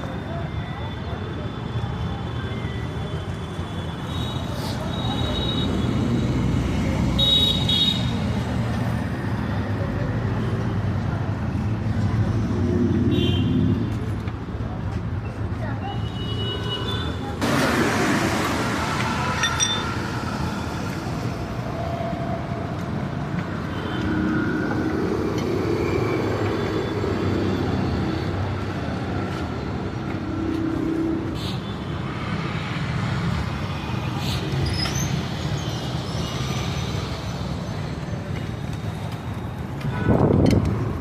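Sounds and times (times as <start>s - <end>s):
street traffic: 0.0s - 41.0s.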